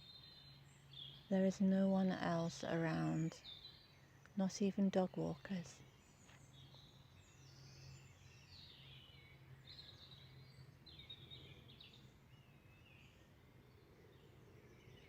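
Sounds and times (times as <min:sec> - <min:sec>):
low steady hum: 0:00.0 - 0:15.0
songbirds singing: 0:00.0 - 0:15.0.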